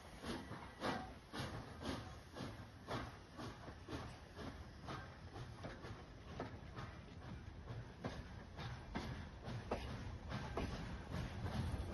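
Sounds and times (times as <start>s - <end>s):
soft rhythmic knocking: 0.0s - 11.9s
train low rumble: 0.0s - 11.9s.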